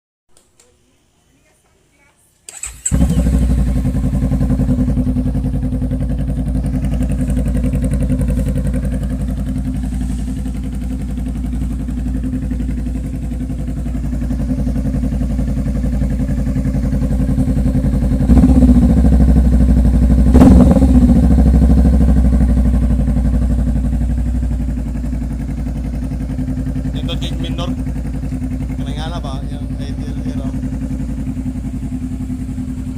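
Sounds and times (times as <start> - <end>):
motorcycle engine idling and revving: 2.5 - 32.9.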